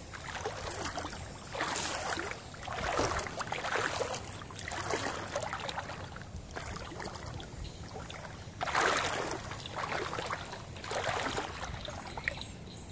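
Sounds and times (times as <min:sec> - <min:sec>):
floodwater sloshing and splashing: 0:00.0 - 0:12.7.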